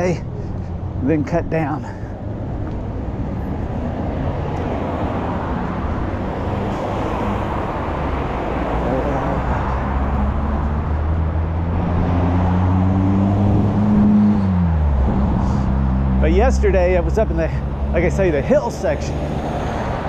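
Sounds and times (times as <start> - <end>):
approaching vehicle engine hum: 0.0 - 20.0
road traffic noise: 0.0 - 20.0.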